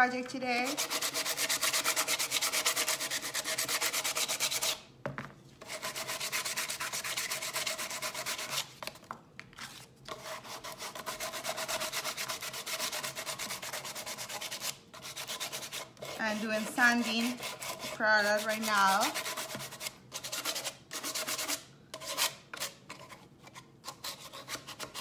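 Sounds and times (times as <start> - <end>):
sandpaper scratching wood: 0.6 - 4.8, 5.7 - 8.7, 10.1 - 22.8, 23.9 - 25.0.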